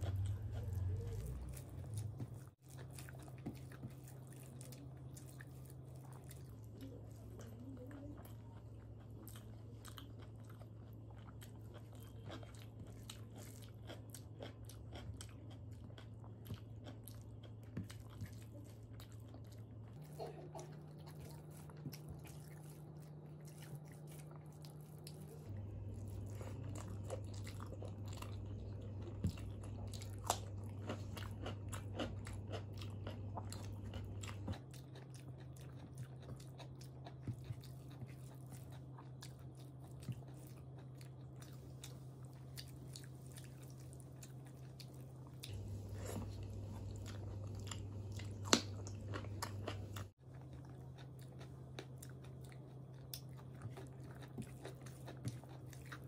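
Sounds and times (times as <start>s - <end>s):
close chewing and mouth sounds: 0.0s - 56.0s
steady low hum: 0.0s - 56.0s.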